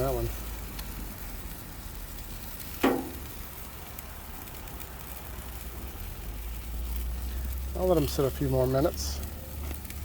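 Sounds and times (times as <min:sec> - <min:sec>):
food sizzling on a grill: 0:00.0 - 0:10.0.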